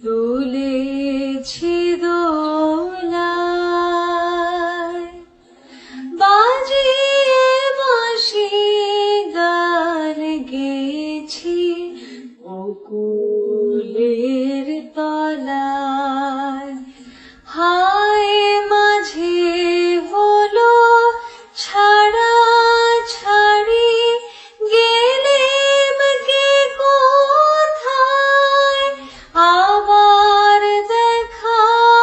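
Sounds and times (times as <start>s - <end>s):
woman singing: 0.0s - 32.0s.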